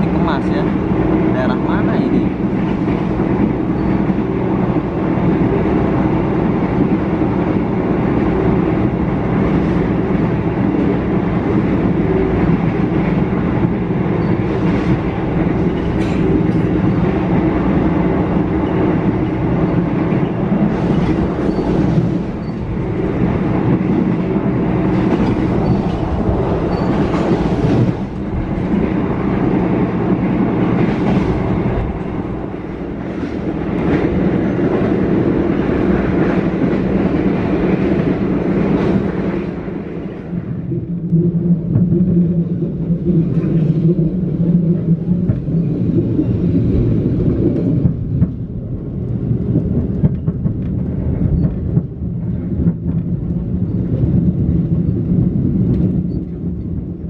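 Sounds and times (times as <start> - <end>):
train rumble and hum: 0.0 - 57.0.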